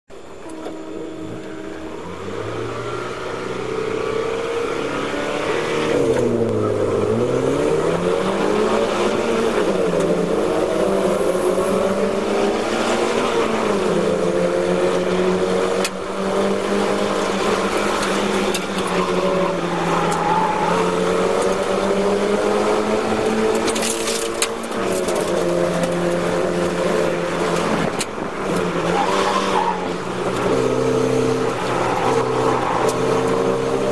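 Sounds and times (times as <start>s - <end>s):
race car engine accelerating: 0.4s - 33.9s.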